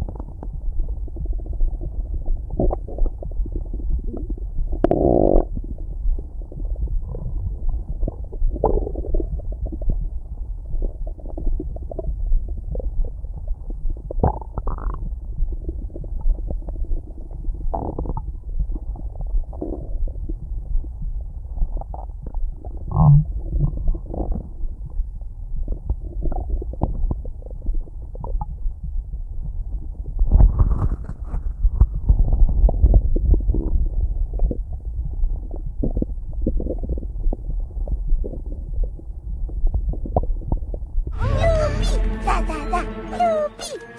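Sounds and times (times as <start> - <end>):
stomach growling and gurgling: 0.0 - 41.2.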